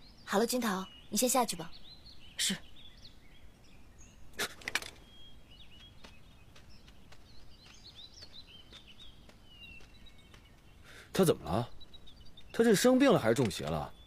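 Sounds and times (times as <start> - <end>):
birds chirping faintly: 0.0 - 14.0
woodland background hiss: 0.0 - 14.0.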